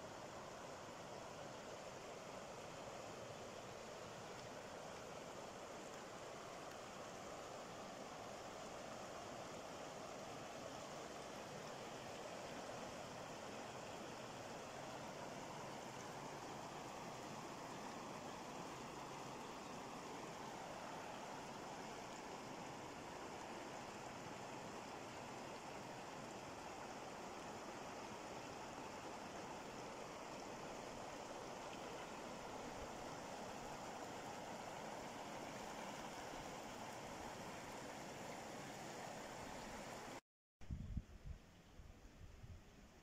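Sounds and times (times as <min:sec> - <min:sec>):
river rushing over rocks: 0:00.1 - 0:40.2.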